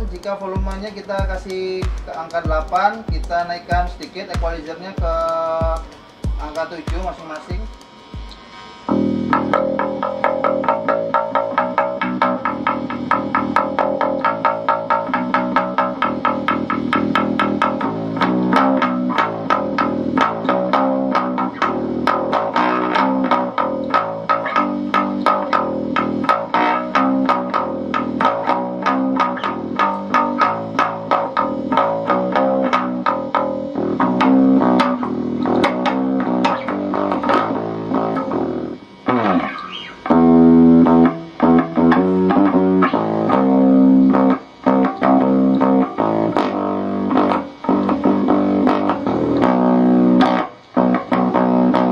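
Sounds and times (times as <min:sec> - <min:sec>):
amp background noise: 0:00.0 - 0:51.9
electric bass guitar through amp: 0:00.0 - 0:51.9.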